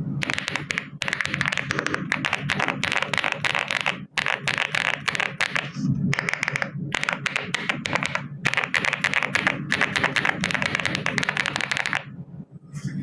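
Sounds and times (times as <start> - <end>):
mechanical keyboard typing: 0.2 - 12.1.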